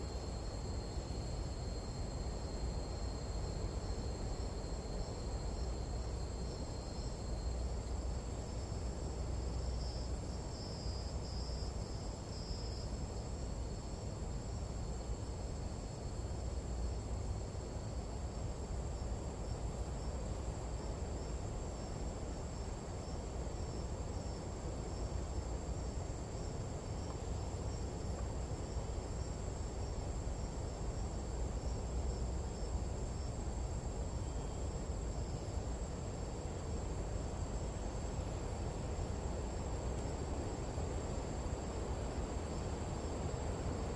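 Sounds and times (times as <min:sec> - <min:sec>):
high-pitched insect trills: 0:00.0 - 0:43.9.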